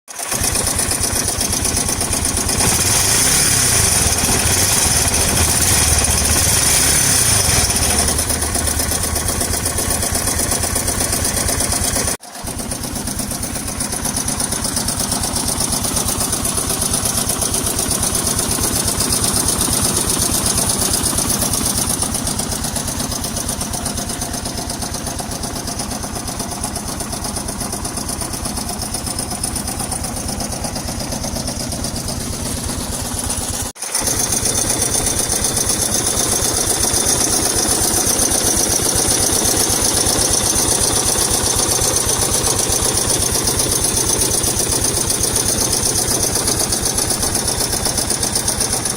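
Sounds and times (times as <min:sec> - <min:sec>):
motorcycle engine knocking: 0:00.1 - 0:48.9.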